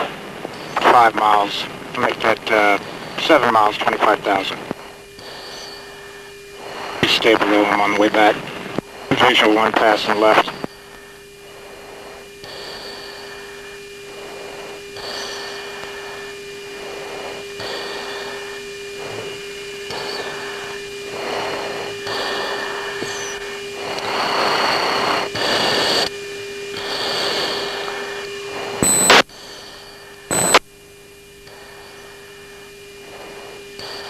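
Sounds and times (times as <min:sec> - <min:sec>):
steady cockpit hum: 0:00.0 - 0:34.0.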